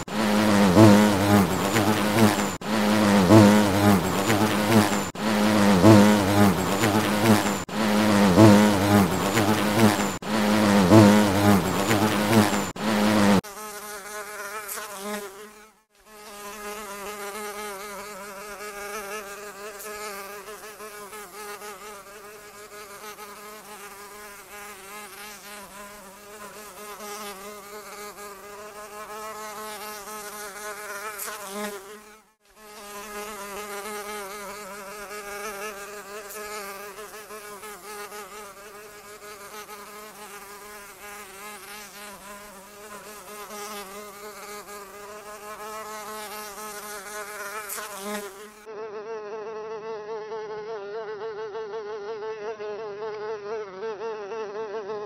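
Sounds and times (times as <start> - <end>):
housefly buzzing: 0.0 - 55.0.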